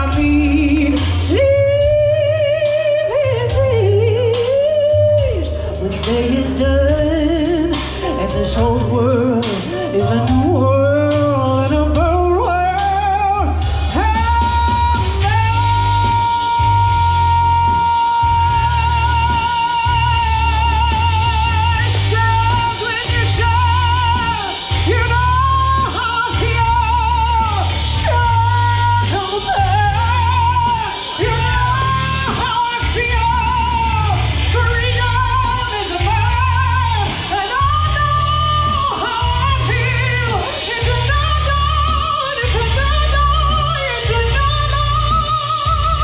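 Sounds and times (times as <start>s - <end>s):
backing track with pulsing bass: 0.0s - 46.0s
woman singing into microphone: 0.0s - 46.0s.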